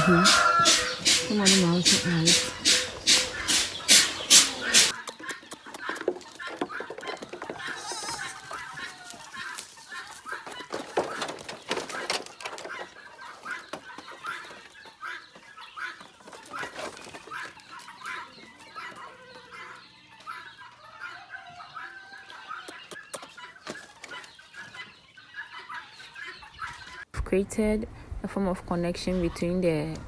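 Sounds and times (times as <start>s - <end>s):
chickens clucking: 0.0s - 27.1s.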